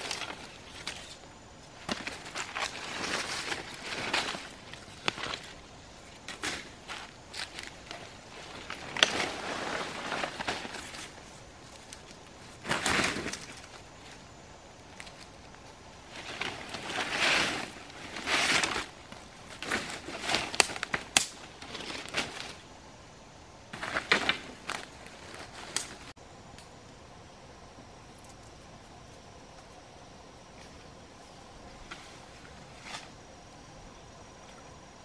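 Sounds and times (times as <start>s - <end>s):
leaves and twigs rustling underfoot: 0.0s - 27.0s, 27.8s - 34.7s.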